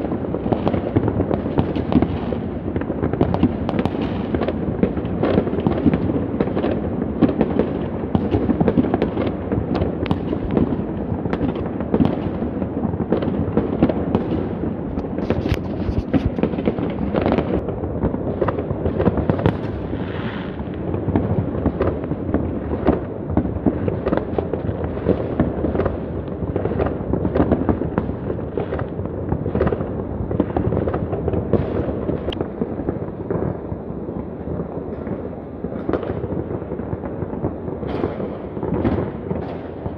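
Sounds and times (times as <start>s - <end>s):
distant fireworks bangs and crackles: 0.0s - 39.9s.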